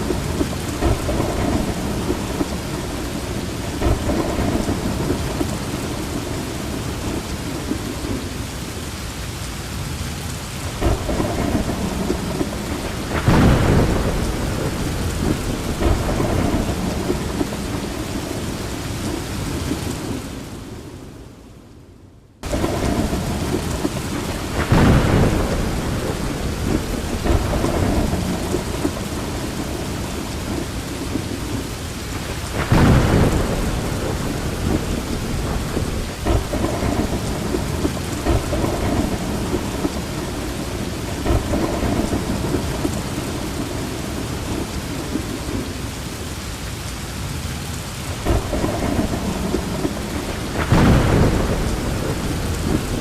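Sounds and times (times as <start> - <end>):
rolling thunder: 0.0 - 8.6, 10.6 - 21.1, 22.4 - 46.0, 47.9 - 53.0
heavy rain: 0.0 - 53.0.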